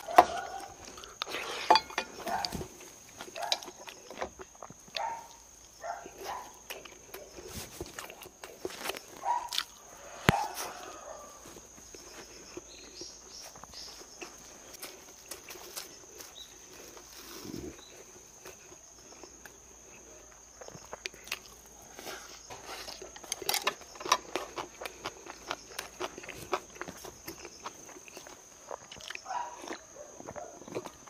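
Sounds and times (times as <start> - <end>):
chewing: 0.0 - 31.0
crickets chirring: 0.0 - 31.0.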